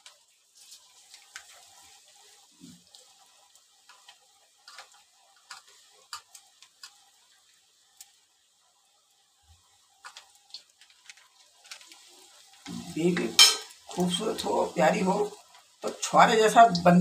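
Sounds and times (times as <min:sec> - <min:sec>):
batter deep-frying in hot oil: 0:00.0 - 0:17.0
oil popping and crackling: 0:00.0 - 0:17.0.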